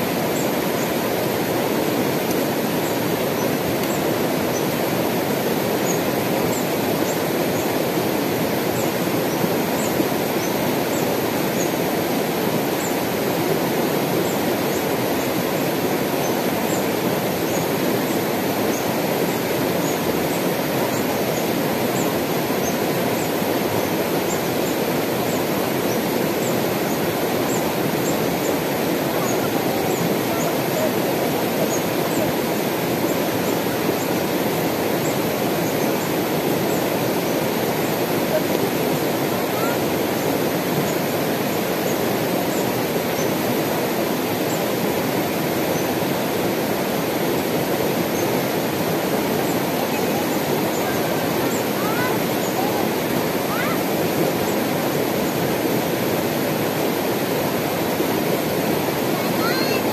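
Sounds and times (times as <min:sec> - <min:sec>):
river rushing over rocks: 0:00.0 - 0:59.9.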